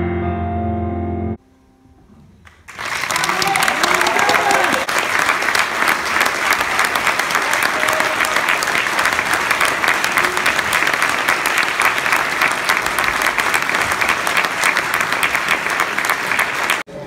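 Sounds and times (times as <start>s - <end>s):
audience applauding: 2.4s - 17.0s.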